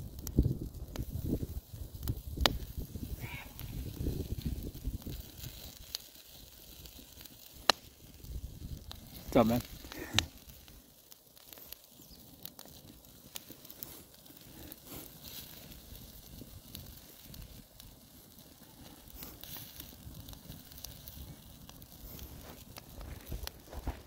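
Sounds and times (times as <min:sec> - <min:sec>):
fire pops and snaps: 0:00.0 - 0:24.0
wood fire crackling: 0:00.0 - 0:24.0.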